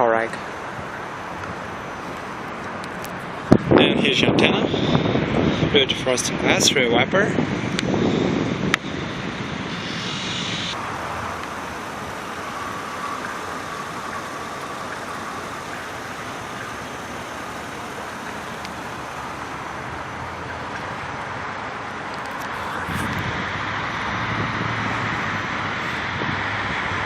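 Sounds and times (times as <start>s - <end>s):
motor vehicle running: 0.0s - 27.0s.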